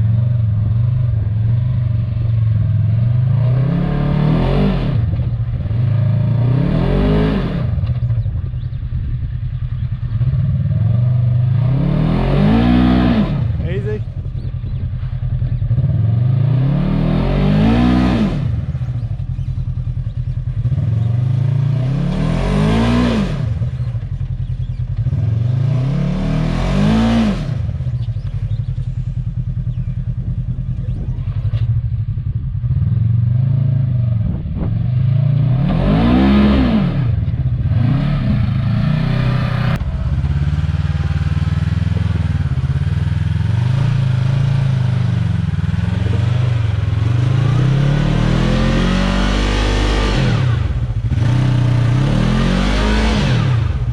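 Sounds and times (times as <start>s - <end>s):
vehicle engine revving: 0.0s - 53.9s.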